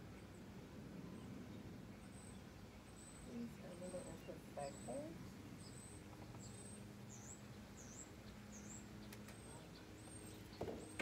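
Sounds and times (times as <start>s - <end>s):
low background hum: 0.0s - 11.0s
small bird chirping: 0.0s - 11.0s.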